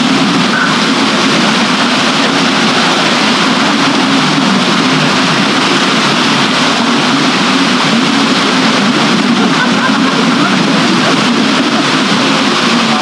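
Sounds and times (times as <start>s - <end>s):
low water churn: 0.0s - 13.0s
water rushing over water wheel: 0.0s - 13.0s.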